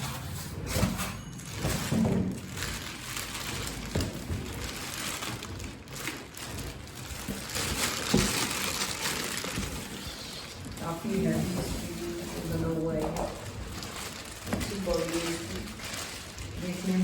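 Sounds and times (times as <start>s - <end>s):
plastic wrap and cardboard rustling: 0.0s - 17.0s.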